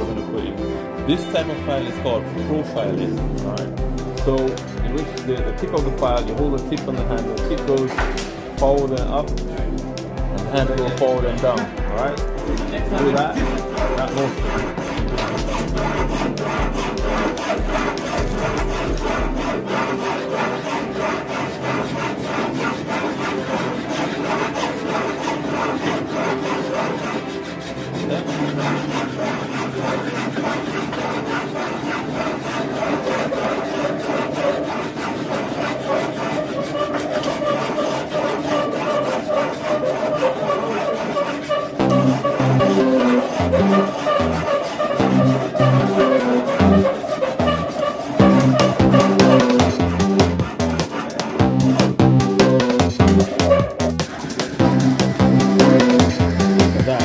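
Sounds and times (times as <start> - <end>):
file scraping across metal: 0.3 - 57.0.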